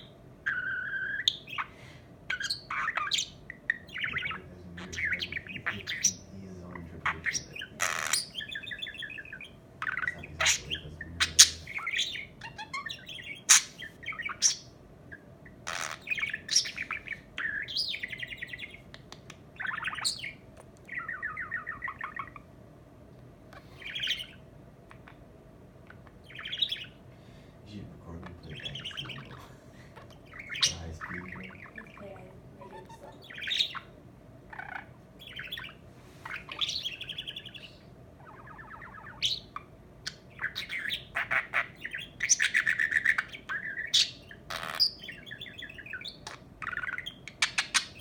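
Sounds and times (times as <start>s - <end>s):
budgerigar chirping and chattering: 0.0s - 22.5s, 23.6s - 27.0s, 28.1s - 48.0s.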